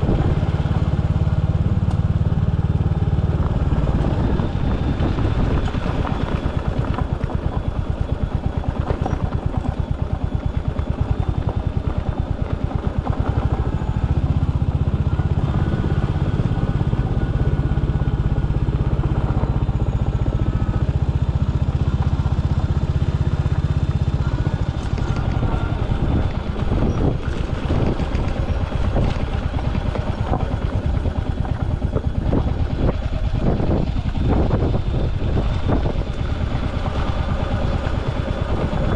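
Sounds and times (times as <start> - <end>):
motorcycle engine running: 0.0 - 38.9
engine knocks: 3.0 - 38.9.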